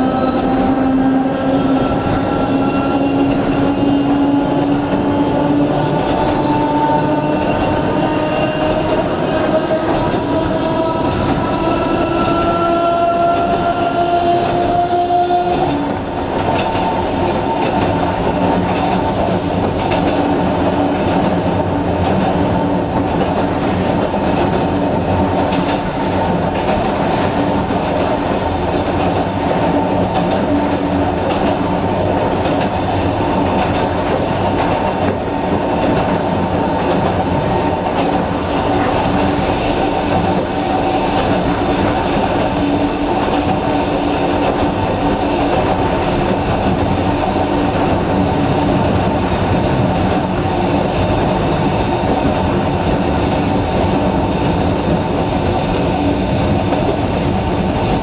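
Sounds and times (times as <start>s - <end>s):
train rumble: 0.0s - 58.0s
wheels clicking over rail joints: 0.0s - 58.0s.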